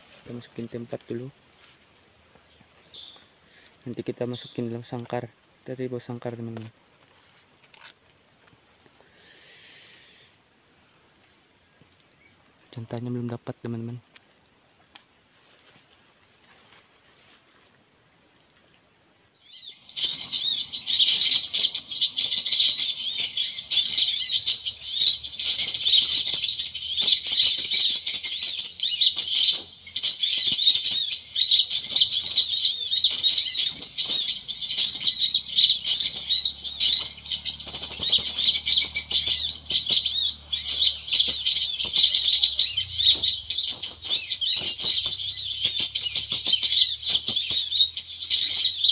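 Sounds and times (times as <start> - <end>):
small birds twittering: 0.0 - 17.0, 17.7 - 48.9
high insect drone: 0.0 - 48.9.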